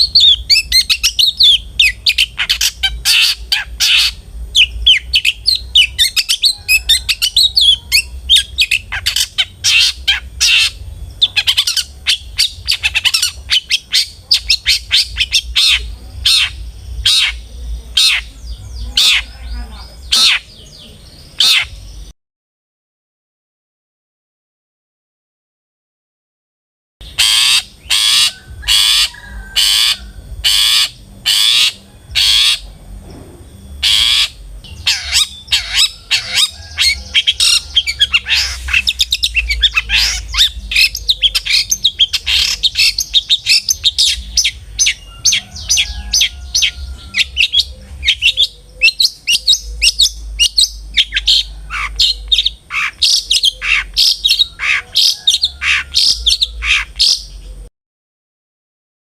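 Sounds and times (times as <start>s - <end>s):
bird chattering song: 0.0s - 22.1s, 27.0s - 32.8s, 33.5s - 57.7s
bird harsh calls: 0.0s - 22.1s, 27.0s - 57.7s.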